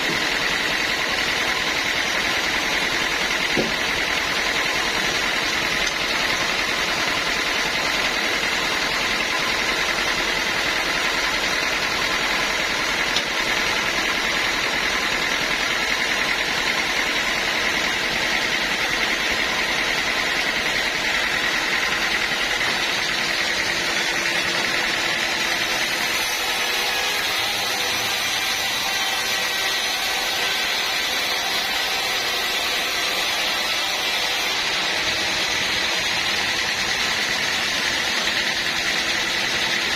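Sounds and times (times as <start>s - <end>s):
high machine whine: 0.0s - 39.9s
sawmill machinery running: 0.0s - 39.9s.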